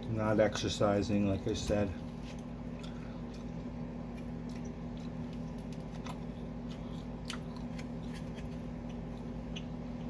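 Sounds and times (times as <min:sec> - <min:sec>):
chewing pizza: 0:00.0 - 0:10.0
mouth clicks and crunches: 0:00.0 - 0:10.0
steady low hum: 0:00.0 - 0:10.0.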